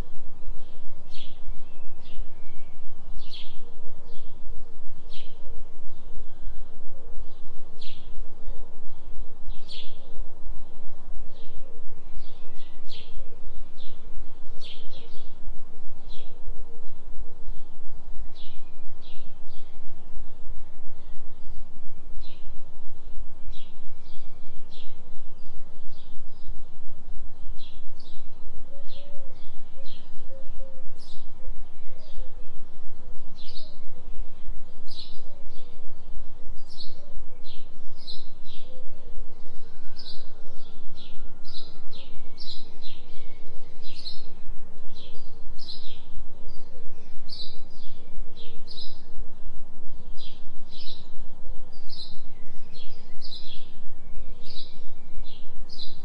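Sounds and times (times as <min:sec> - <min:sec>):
constant deep low tone: 0:00.0 - 0:56.0.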